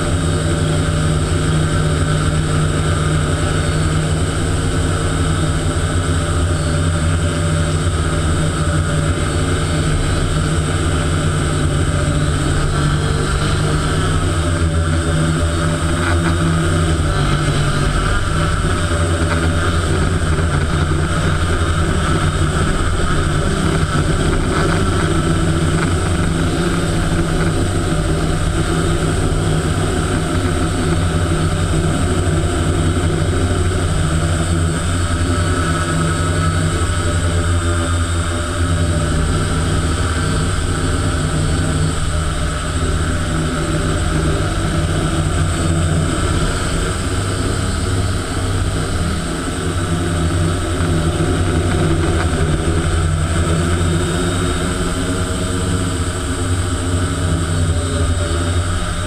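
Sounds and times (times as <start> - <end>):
drone buzzing hum: 0.0 - 59.0.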